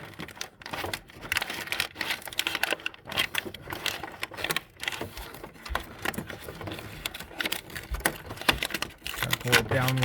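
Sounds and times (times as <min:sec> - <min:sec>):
paper crinkling and rustling: 0:00.0 - 0:10.0.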